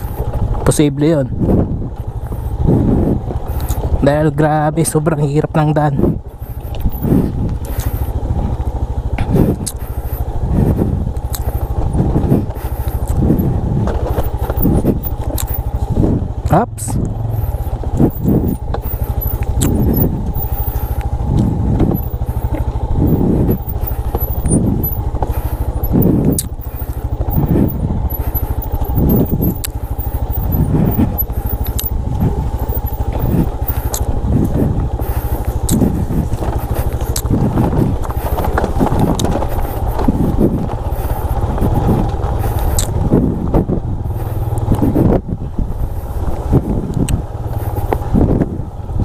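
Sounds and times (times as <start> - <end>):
motorcycle engine droning: 0.0 - 49.0.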